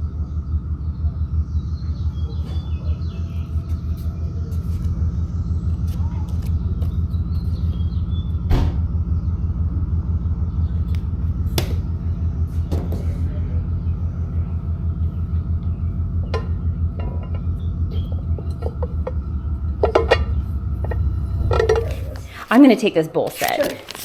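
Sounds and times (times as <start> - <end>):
low rumble with pulsing beat: 0.0 - 22.5.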